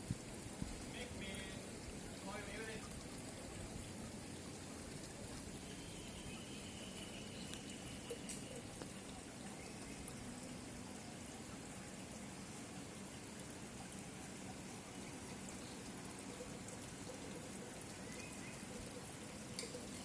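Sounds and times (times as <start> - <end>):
running water rushing and trickling: 0.0 - 20.0.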